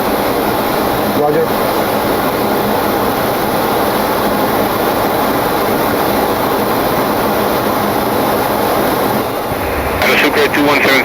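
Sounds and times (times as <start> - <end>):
airflow around cockpit: 0.0 - 11.0
faint steady hum: 0.0 - 11.0
jet engine noise: 0.0 - 11.0.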